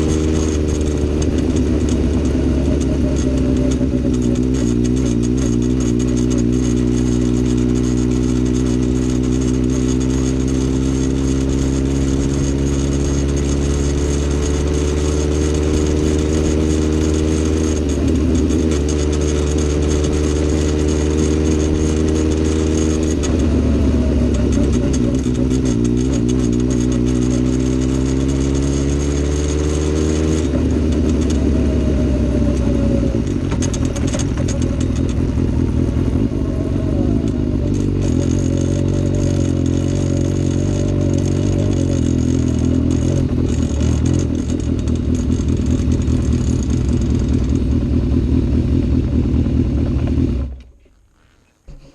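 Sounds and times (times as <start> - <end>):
clattering engine rattle: 0.0 - 29.2, 32.5 - 36.4, 37.0 - 50.9
vehicle engine running: 0.0 - 51.9.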